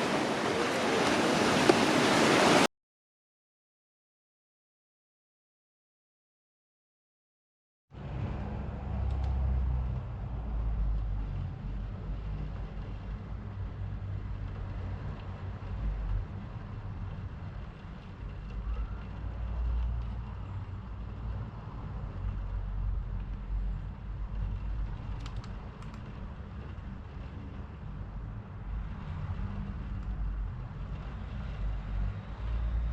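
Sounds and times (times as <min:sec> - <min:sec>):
wind and road noise rumble: 0:00.0 - 0:02.7, 0:07.9 - 0:32.9.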